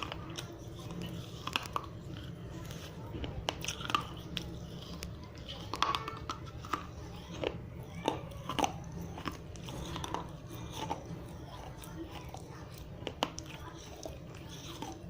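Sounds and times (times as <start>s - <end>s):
clay crunching between teeth: 0.0s - 15.0s.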